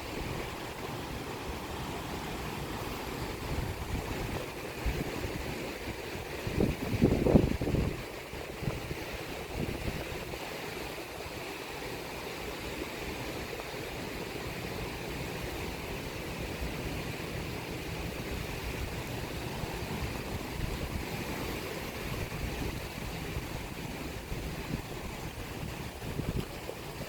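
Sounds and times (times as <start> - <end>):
rain: 0.0 - 27.0
sea waves on shore: 0.0 - 27.0.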